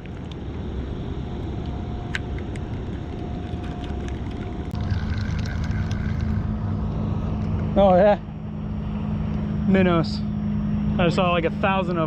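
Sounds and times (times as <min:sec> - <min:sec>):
boat motor rumbling: 0:00.0 - 0:12.0
louder steady hum: 0:00.0 - 0:12.0.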